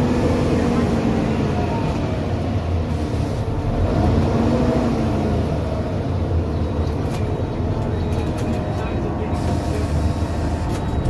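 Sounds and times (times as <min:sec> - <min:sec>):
bus engine drone: 0:00.0 - 0:11.0
road and body noise: 0:00.0 - 0:11.0.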